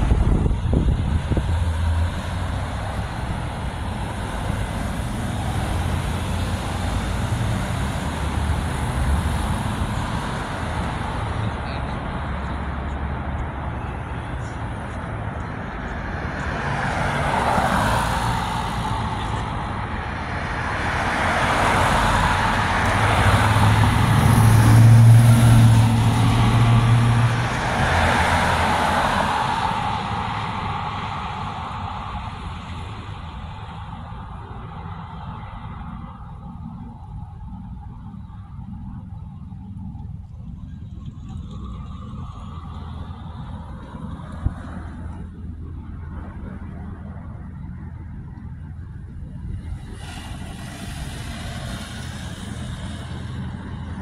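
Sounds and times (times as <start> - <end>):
cars pulling away and passing: 0.0 - 54.0
truck engine drone: 0.0 - 54.0.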